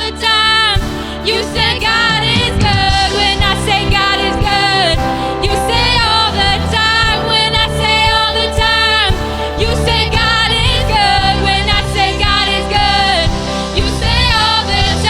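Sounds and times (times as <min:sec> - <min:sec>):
gospel voices singing: 0:00.0 - 0:15.0
band playing steady beat: 0:00.8 - 0:15.0.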